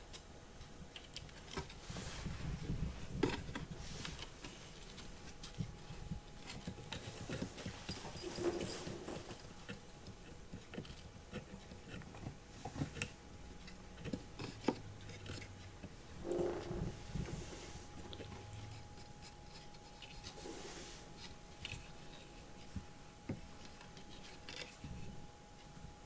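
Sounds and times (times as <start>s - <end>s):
kitten clicks and rustles: 0.0s - 16.1s, 16.9s - 25.8s.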